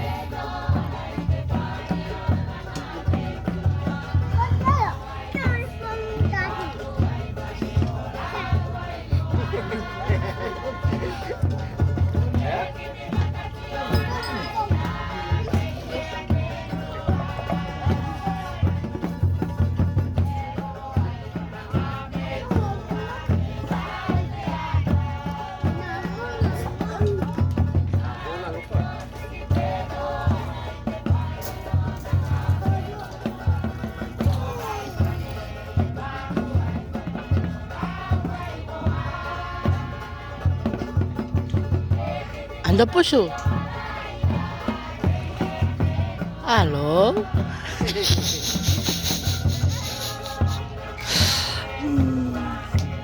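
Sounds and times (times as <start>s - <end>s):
repeating drum beat: 0.0s - 53.0s
voices singing: 0.0s - 53.0s.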